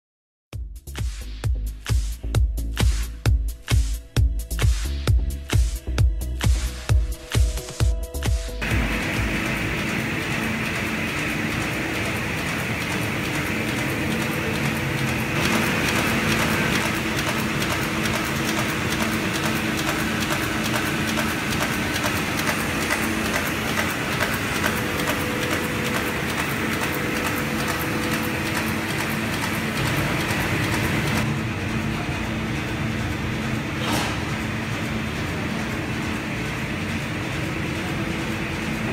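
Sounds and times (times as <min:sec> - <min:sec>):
sawmill machinery drone: 0:06.6 - 0:38.9.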